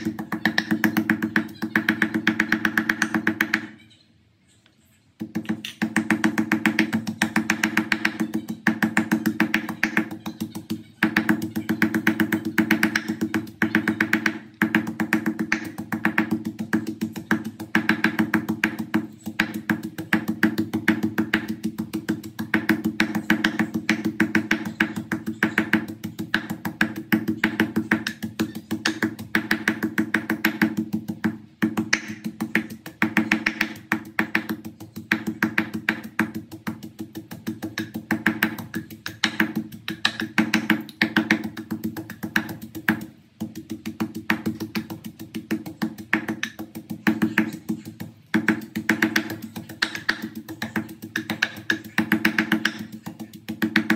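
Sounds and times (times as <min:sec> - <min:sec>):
wooden pestle pounding in mortar: 0:00.0 - 0:03.8, 0:05.2 - 0:53.9.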